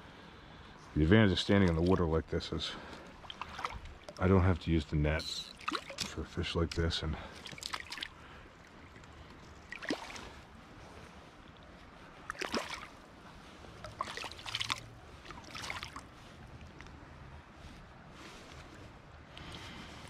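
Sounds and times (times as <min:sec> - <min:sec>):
river water splashing: 0:01.4 - 0:20.0.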